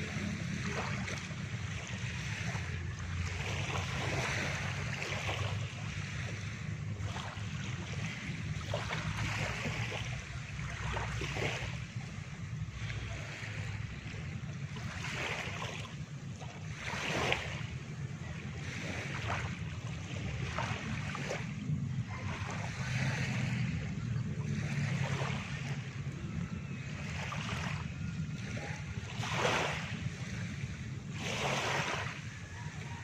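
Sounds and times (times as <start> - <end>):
steady low rumble: 0.0 - 33.0
waves washing up a sandy shore: 0.0 - 33.0.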